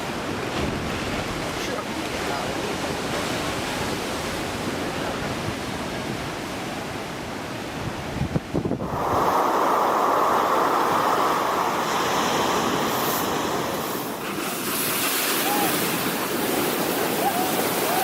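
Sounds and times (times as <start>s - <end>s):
water surging and waves: 0.0s - 18.0s.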